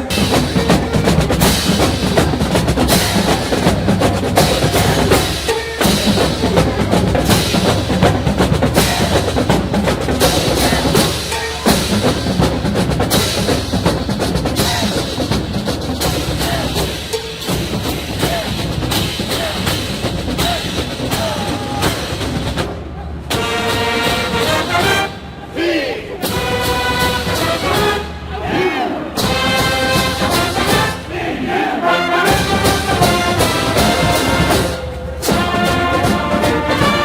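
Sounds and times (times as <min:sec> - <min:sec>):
drumline playing drum cadence: 0:00.0 - 0:37.0.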